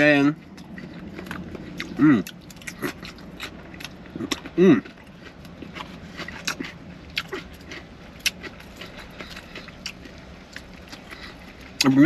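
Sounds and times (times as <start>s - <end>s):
chewing and wet smacking: 0.0s - 12.0s.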